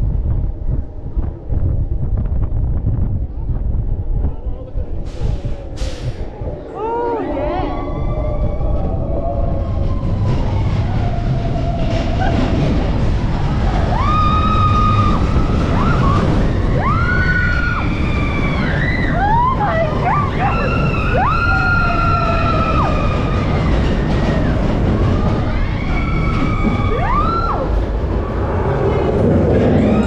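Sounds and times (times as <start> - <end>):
coaster train rumbling on track: 0.0 - 30.0.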